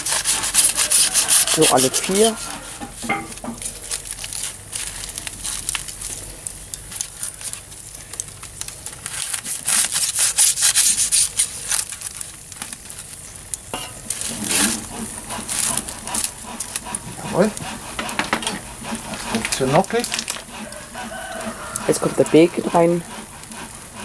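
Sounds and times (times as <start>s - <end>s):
aluminium foil crinkling: 0.0s - 17.6s, 18.7s - 22.3s
knife scraping through foil: 0.0s - 24.0s.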